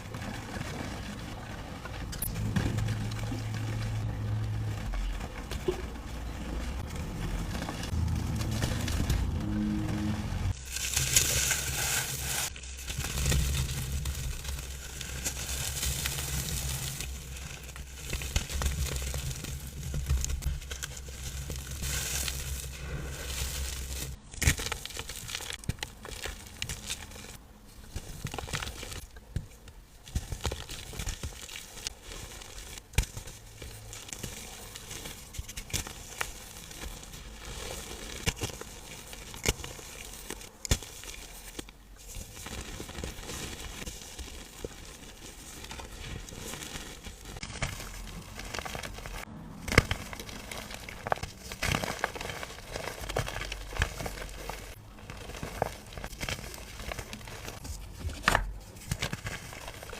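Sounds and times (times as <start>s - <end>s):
chalky blocks crumbling by hand: 0.0s - 59.9s.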